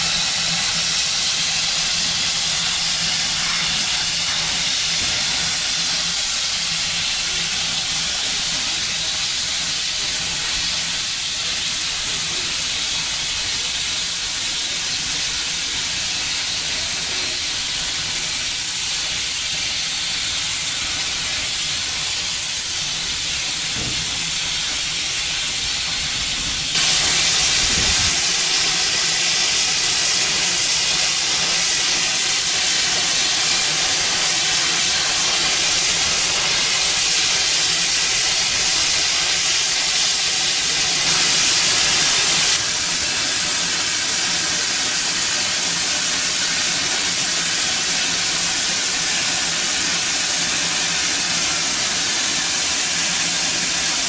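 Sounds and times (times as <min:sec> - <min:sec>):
steam train hissing: 0:00.0 - 0:54.0.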